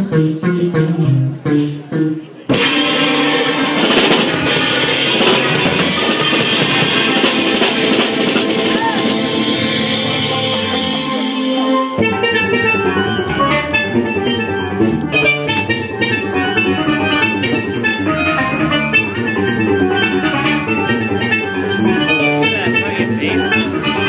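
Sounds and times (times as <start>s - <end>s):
drum kit: 0.0s - 24.0s
electric bass: 0.0s - 24.0s
steel pan melody: 0.0s - 24.0s.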